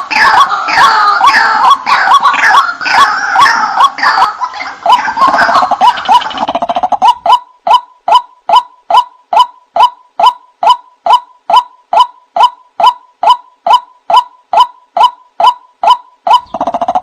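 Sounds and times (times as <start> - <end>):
bird croaking calls: 0.0 - 17.0.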